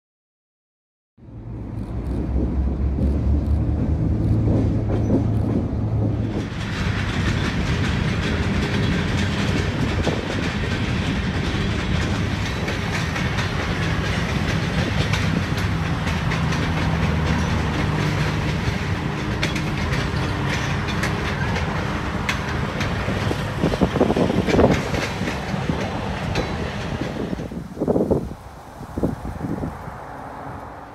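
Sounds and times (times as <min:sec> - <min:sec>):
diesel locomotive drone: 0:01.2 - 0:30.9
freight train wheels clacking: 0:01.9 - 0:28.1.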